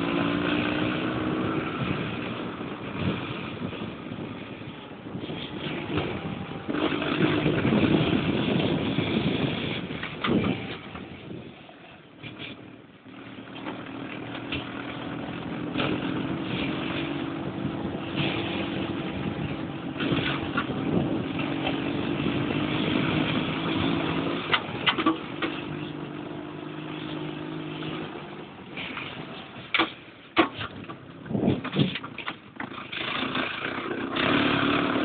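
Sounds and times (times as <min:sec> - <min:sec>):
dune buggy engine running: 0:00.0 - 0:35.0.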